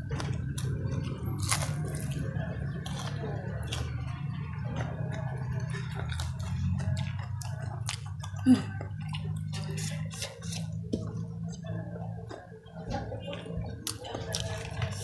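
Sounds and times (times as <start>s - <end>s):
chewing with wet mouth clicks: 0.1s - 15.0s.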